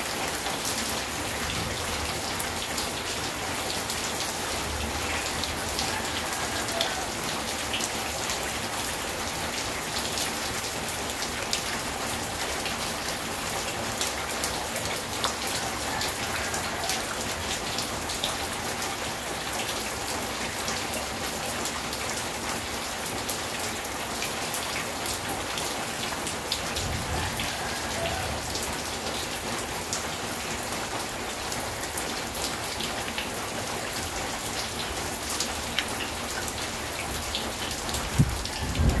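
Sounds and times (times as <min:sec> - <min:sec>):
rain on a metal roof: 0:00.0 - 0:39.0.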